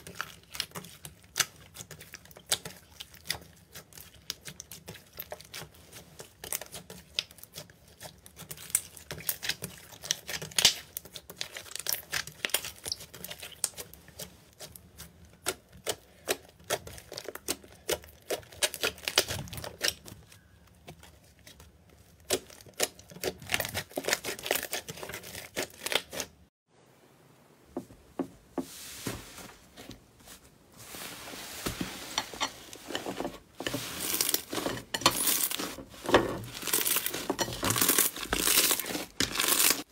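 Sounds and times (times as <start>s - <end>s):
slime crinkling and crackling: 0.0s - 26.5s, 31.0s - 39.9s.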